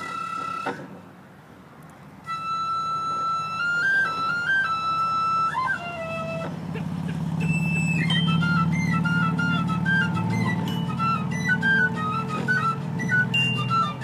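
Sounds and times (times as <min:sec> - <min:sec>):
flute melody: 0:00.0 - 0:01.0, 0:02.2 - 0:14.0.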